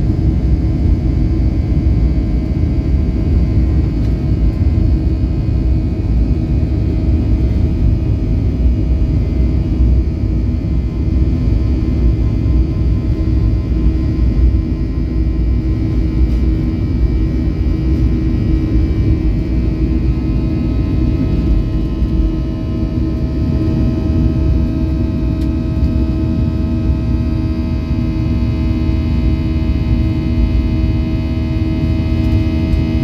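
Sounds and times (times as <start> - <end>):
jet engines low rumble: 0.0 - 33.0.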